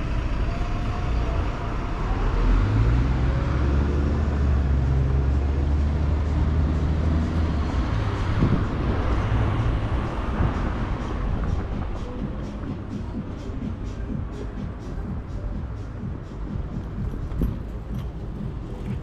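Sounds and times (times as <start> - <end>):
large vehicle engine humming: 0.0 - 19.0
street noise: 0.0 - 19.0.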